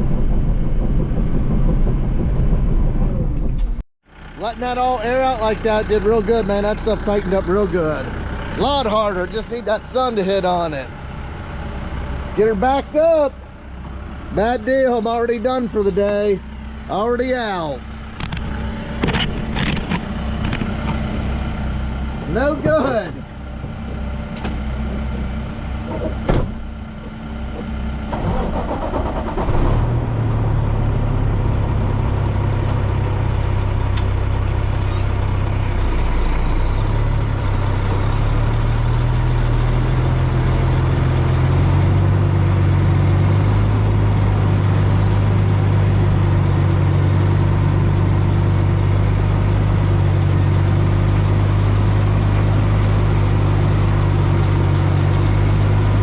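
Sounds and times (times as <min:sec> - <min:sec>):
diesel engine running loud: 0:00.0 - 0:56.0.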